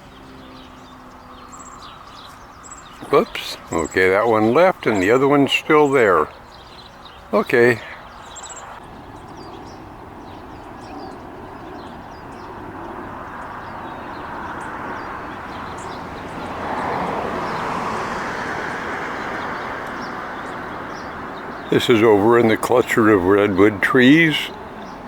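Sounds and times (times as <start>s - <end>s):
vehicle passing: 0.0s - 25.0s.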